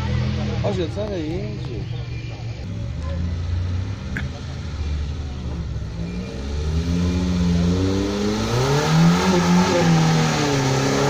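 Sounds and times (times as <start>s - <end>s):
off-road vehicle engine revving: 0.0s - 2.0s, 2.6s - 11.0s.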